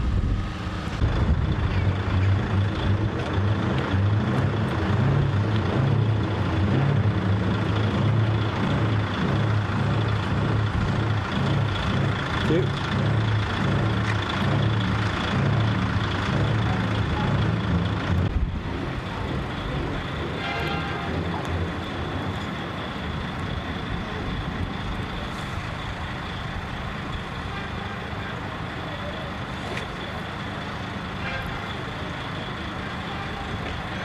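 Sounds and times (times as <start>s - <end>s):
diesel truck engines rumbling: 0.0s - 34.0s
engine and vehicle drone: 0.0s - 34.0s.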